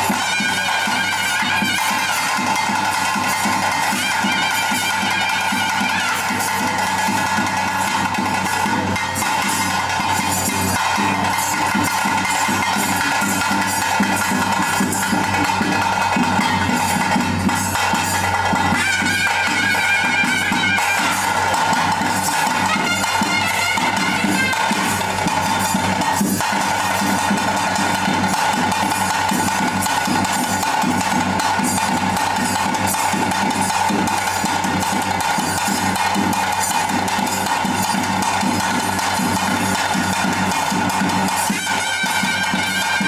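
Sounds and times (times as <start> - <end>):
fast dense drumming: 0.0 - 43.0.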